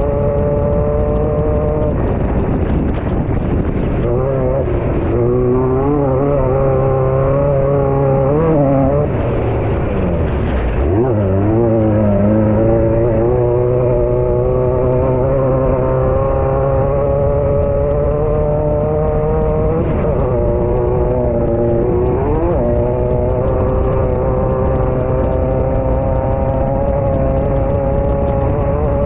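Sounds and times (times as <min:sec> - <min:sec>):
chassis rumble and rattle: 0:00.0 - 0:29.0.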